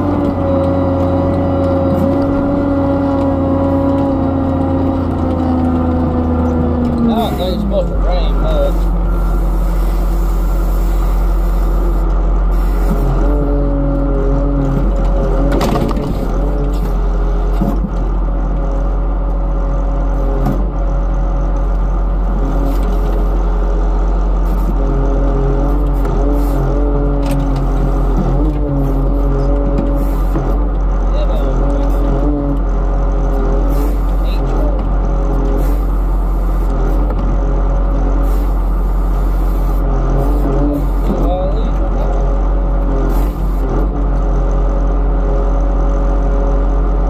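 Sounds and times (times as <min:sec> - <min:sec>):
diesel engine running under load: 0:00.0 - 0:47.0.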